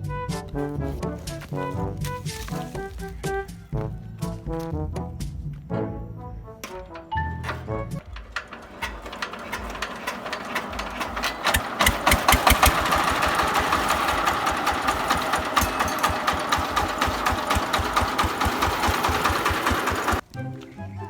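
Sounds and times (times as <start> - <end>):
diesel tractor engine starting: 0.5 - 4.4, 6.0 - 20.3.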